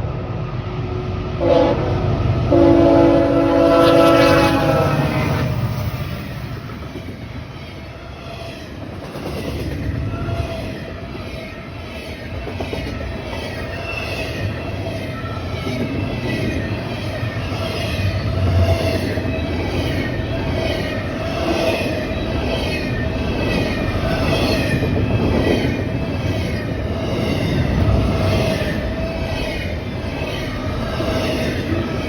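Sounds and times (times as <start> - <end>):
train cars rumbling: 0.0 - 32.0.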